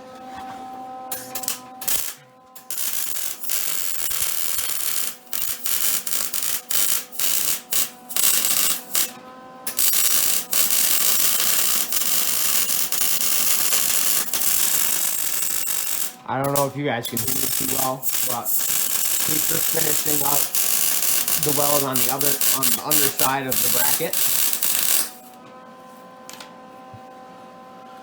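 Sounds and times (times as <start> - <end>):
arc welder crackling and hissing: 1.1 - 25.4.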